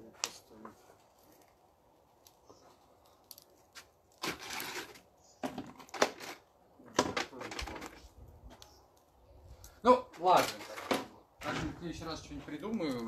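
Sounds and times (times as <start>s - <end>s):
rake scraping burning coals: 0.0s - 13.0s.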